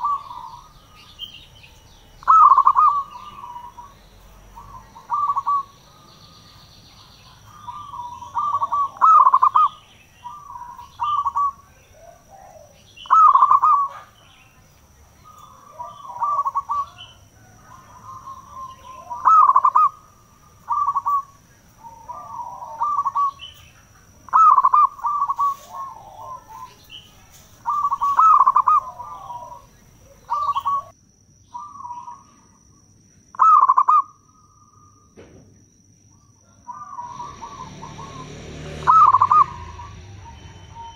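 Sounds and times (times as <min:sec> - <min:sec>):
dove cooing: 0:00.0 - 0:30.9, 0:33.4 - 0:35.0, 0:36.7 - 0:40.9.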